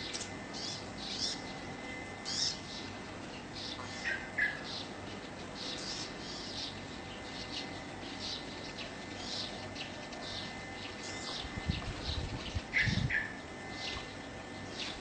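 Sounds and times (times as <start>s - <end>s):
faint steady high whine: 0.0s - 15.0s
small birds chirping: 0.0s - 15.0s.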